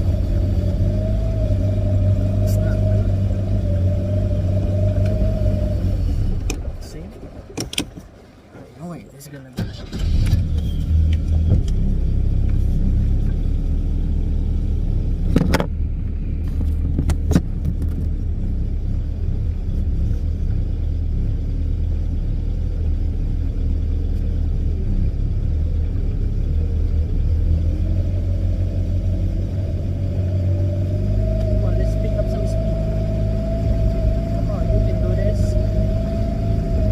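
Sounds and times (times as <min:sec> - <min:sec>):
boat engine rumbling: 0:00.0 - 0:36.9.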